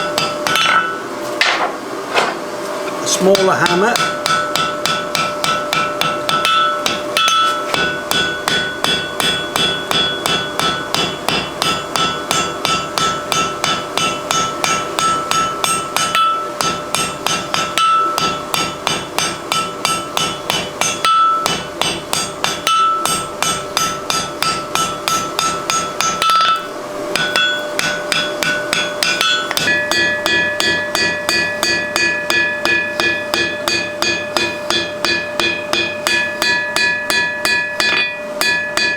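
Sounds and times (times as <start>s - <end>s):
anvil ringing: 0.0s - 1.0s, 3.3s - 38.9s
hammer striking steel on anvil: 0.0s - 2.3s, 3.1s - 38.9s.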